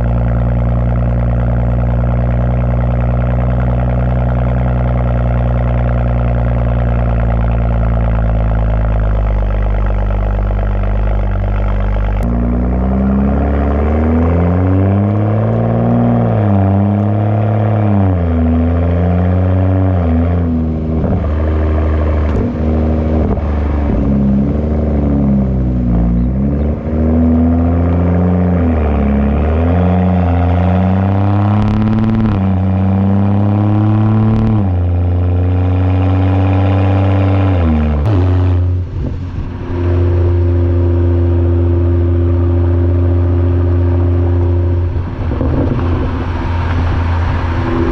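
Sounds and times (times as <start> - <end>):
car engine and exhaust revving: 0.0 - 47.9.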